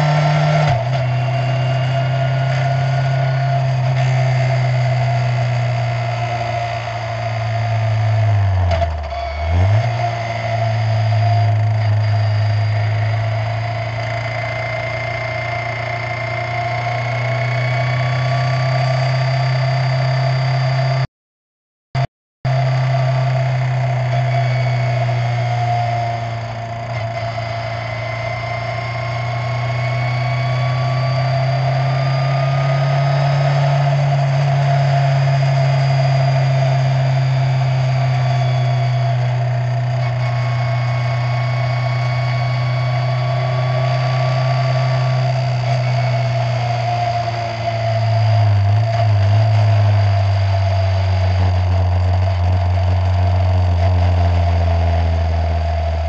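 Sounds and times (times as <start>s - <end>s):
race car engine onboard: 0.0s - 21.1s, 22.5s - 56.0s.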